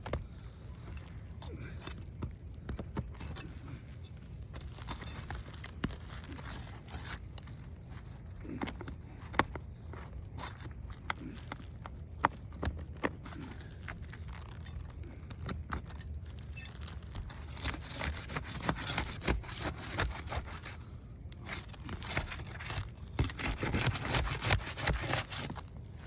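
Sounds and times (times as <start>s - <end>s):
pry bar scraping under shingles: 0.0s - 26.0s.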